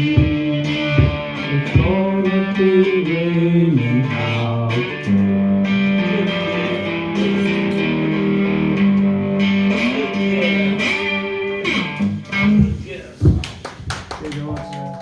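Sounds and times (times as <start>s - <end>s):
slide guitar blues: 0.0s - 13.2s.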